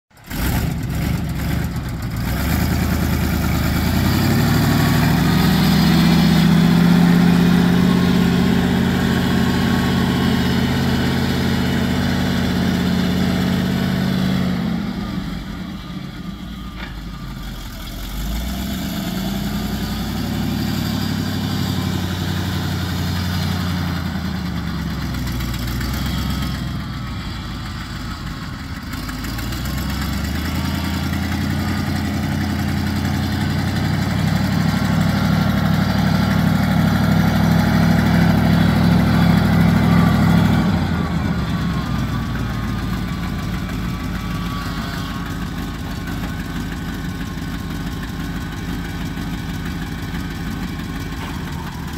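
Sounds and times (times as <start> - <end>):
truck engine: 0.1 - 51.9.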